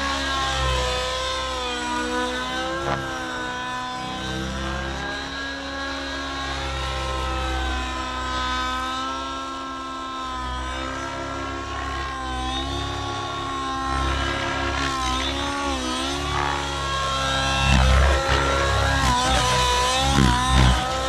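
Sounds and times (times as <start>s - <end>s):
model helicopter engine whine: 0.0s - 21.0s.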